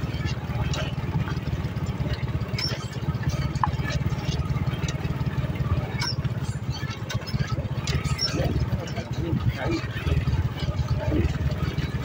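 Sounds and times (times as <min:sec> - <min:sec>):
clicks and knocks over rough ground: 0:00.0 - 0:12.0
motorcycle engine puttering: 0:00.0 - 0:12.0.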